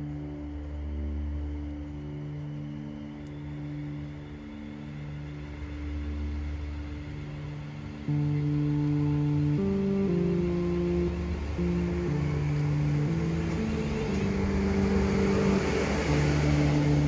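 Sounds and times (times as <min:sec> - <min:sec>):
low synth chords: 0:00.0 - 0:17.0.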